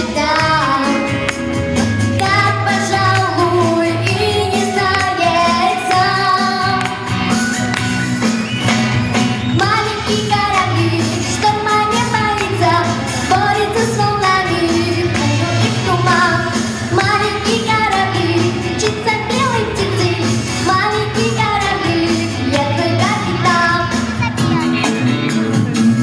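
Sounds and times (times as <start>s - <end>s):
girl singing pop song: 0.0s - 7.4s, 9.5s - 25.0s
backing track with steady beat: 0.0s - 26.0s.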